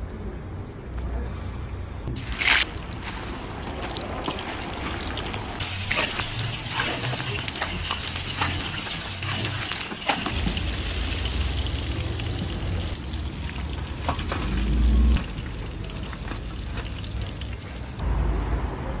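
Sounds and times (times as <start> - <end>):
oil bubbling and sizzling: 2.1 - 18.0.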